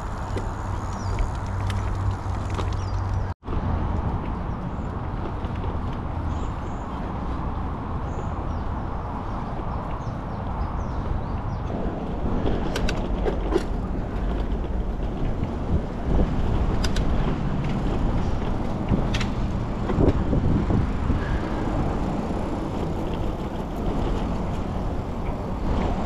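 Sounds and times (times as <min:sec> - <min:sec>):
bike clicks and rattles: 0:00.0 - 0:26.0
wind rush on microphone: 0:00.0 - 0:26.0.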